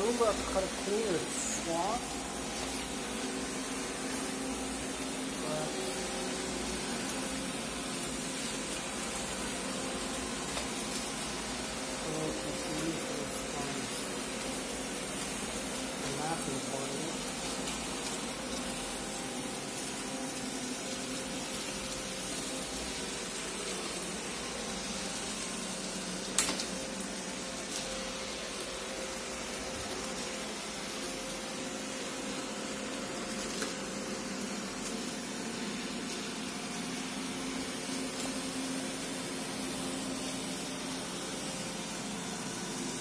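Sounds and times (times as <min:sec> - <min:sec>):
robot vacuum humming: 0:00.0 - 0:43.0.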